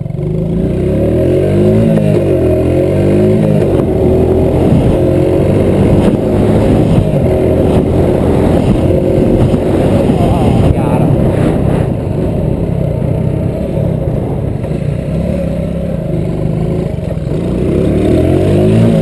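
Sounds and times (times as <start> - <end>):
small engines racing at full throttle: 0.0 - 19.0.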